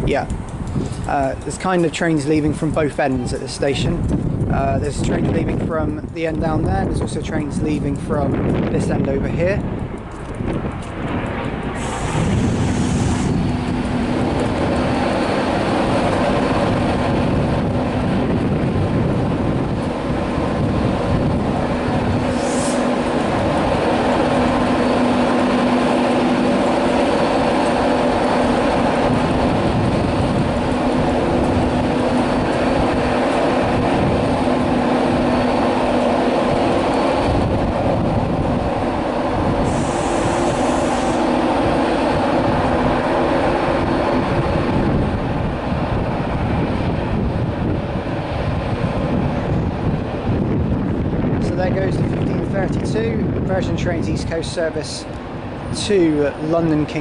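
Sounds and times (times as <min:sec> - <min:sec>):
train wheels rumbling on track: 0:00.0 - 0:57.0
electric train motors humming: 0:08.0 - 0:57.0.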